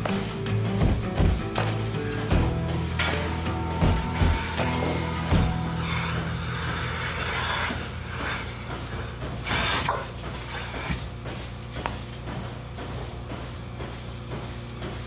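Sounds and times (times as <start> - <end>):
milking cups hissing: 0.0 - 15.0
milking system hum: 0.0 - 15.0.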